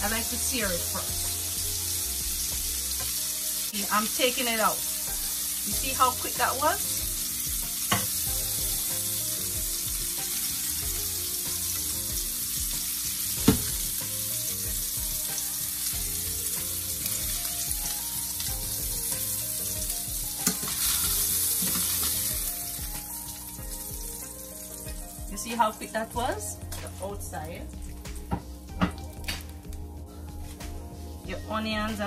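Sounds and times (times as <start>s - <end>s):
fish sizzling in hot oil: 0.0s - 29.8s.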